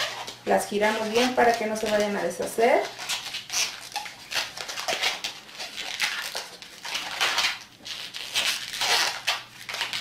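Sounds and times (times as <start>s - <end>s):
balloon squeaking as twisted: 0.0s - 2.0s, 2.8s - 10.0s.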